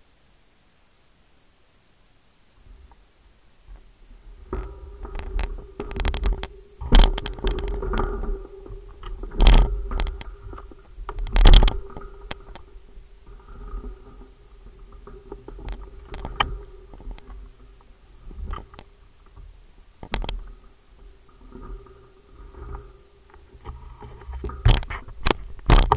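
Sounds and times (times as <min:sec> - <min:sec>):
steady hum: 0:00.0 - 0:25.9
bicycle knocks and rattles: 0:03.7 - 0:25.9
bicycle rolling on gravel: 0:03.7 - 0:25.9.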